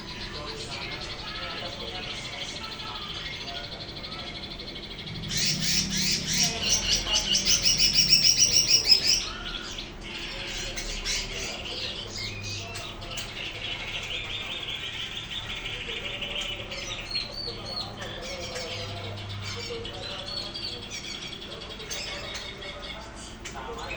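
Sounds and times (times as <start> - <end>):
bird singing: 0.0 - 23.9.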